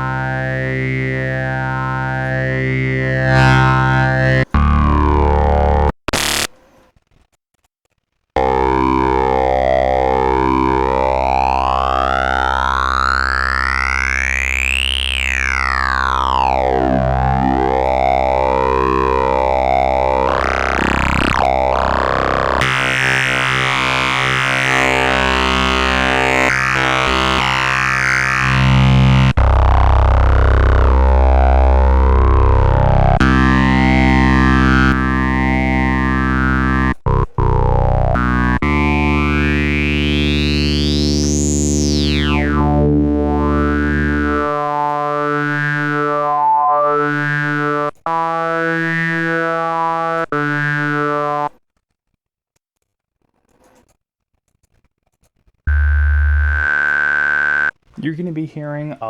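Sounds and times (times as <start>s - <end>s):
saturated synthesizer drone notes: 0.0s - 6.4s, 8.4s - 51.5s, 55.7s - 57.7s.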